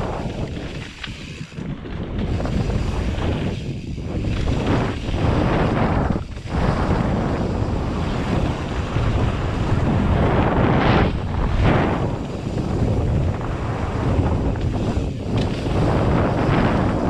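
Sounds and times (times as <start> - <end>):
bike tyres rolling on dirt: 0.0 - 17.0
wind noise on microphone: 0.0 - 17.0.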